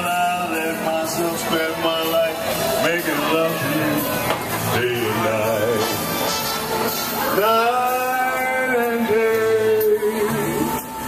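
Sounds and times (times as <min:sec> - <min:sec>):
man singing into microphone: 0:00.0 - 0:06.2, 0:07.3 - 0:11.0.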